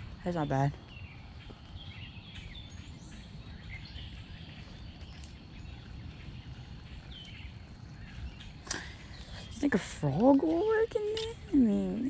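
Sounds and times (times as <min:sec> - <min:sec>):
faint bird chirps: 0:00.0 - 0:12.0
steady low rumble: 0:00.0 - 0:12.0.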